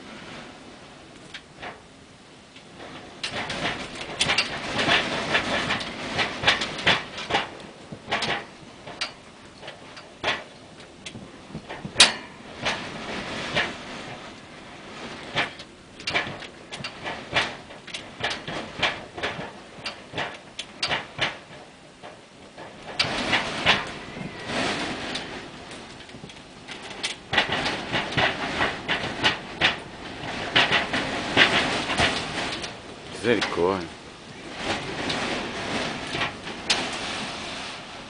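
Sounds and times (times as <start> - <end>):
siding banging in wind: 0.0 - 38.0.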